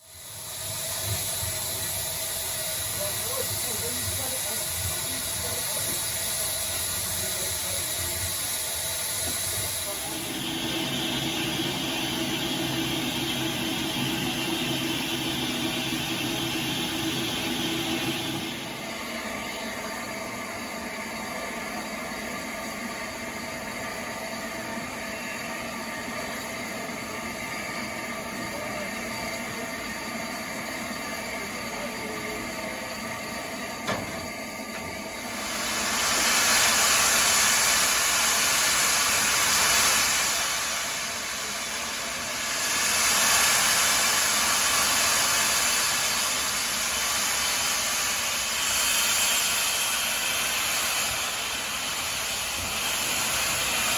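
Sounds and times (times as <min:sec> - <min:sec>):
steam hissing: 0:00.0 - 0:53.9.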